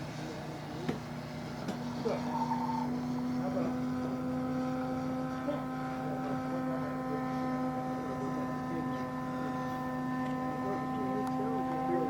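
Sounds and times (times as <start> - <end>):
model plane propeller droning: 0.0 - 12.0.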